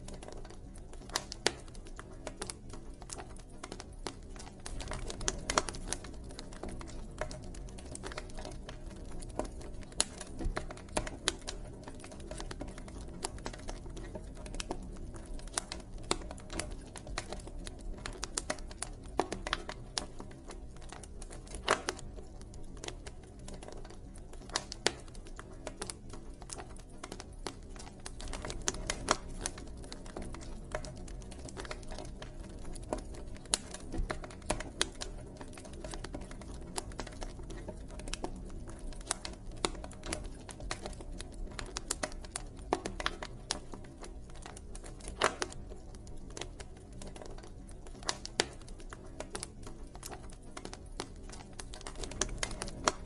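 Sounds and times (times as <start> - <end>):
campfire crackling and popping: 0.0 - 53.0
low rumble of fire: 0.0 - 53.0.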